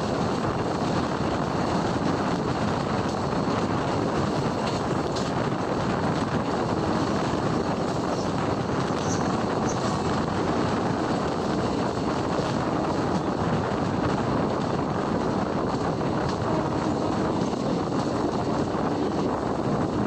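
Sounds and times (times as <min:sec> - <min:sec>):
train wheels rumbling on track: 0:00.0 - 0:20.0
wind on microphone: 0:00.0 - 0:20.0.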